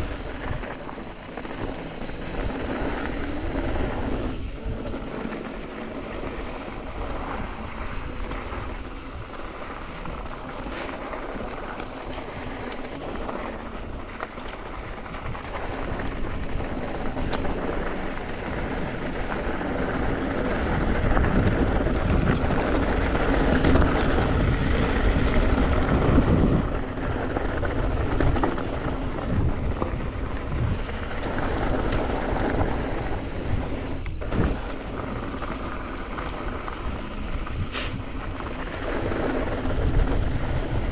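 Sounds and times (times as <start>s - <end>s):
bike clicks and rattles: 0.0s - 40.9s
bike tyres rolling over rocks: 0.0s - 40.9s
wind buffeting microphone: 0.0s - 40.9s.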